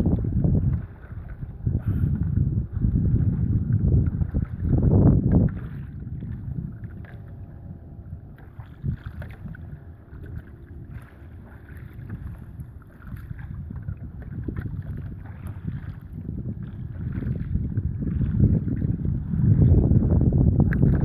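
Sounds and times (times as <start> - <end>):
water lapping: 0.0 - 21.0
wind buffeting microphone: 0.0 - 21.0.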